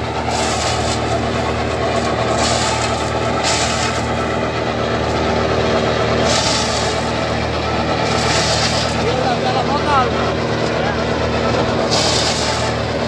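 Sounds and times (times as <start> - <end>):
shredder hissing: 0.0 - 13.0
tractor diesel engine running: 0.0 - 13.0.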